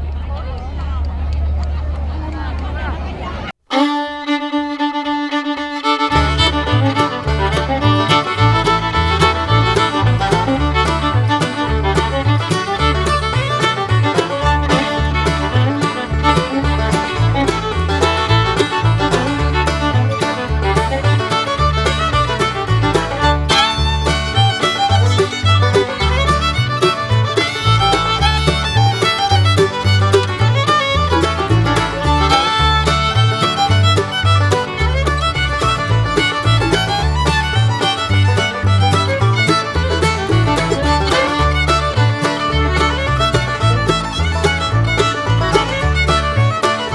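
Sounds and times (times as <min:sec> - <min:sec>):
fast fiddle music: 0:03.6 - 0:46.9.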